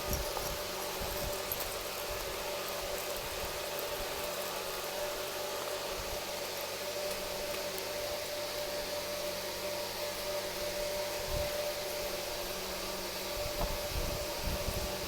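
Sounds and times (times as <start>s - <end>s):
faint constant hum: 0.0s - 15.0s
whooshing hiss of fan: 0.0s - 15.0s.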